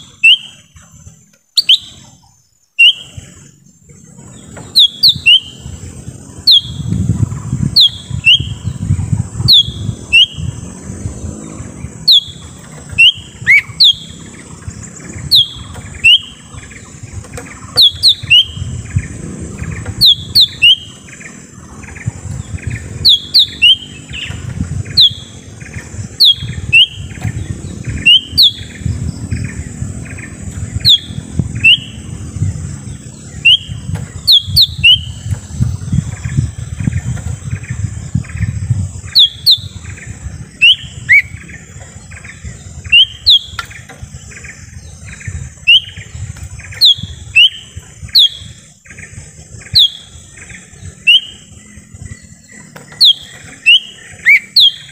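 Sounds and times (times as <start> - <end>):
bird whistled calls: 0.0 - 3.6, 4.2 - 54.9
low rumble: 3.0 - 54.2.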